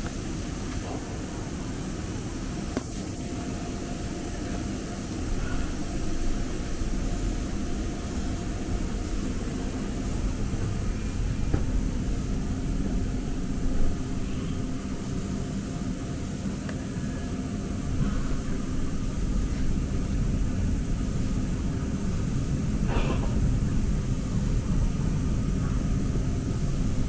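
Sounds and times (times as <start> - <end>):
faint steady whine: 0.0 - 27.0
train rumble: 0.0 - 27.0.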